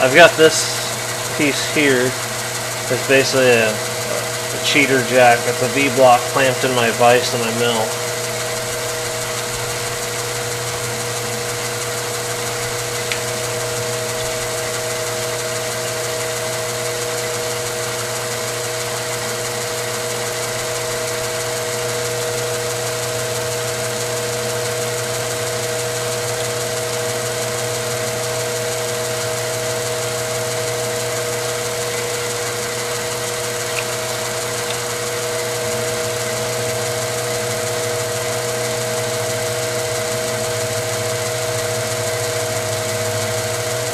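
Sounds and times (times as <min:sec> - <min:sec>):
milling machine hum: 0:00.0 - 0:43.9.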